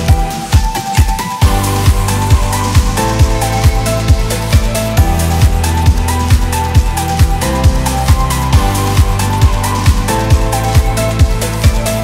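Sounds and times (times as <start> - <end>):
electronic music with kick drum: 0.0 - 12.0.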